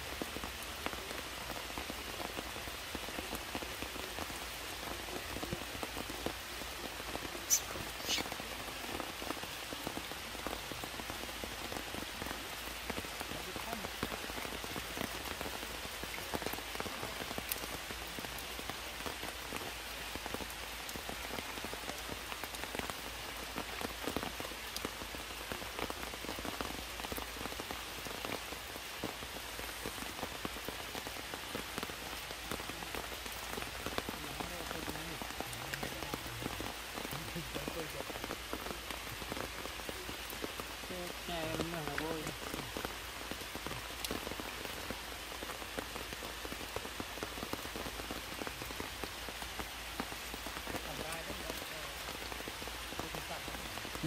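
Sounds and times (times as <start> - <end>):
heavy rain: 0.0 - 54.0
raindrops striking close by: 0.0 - 54.0.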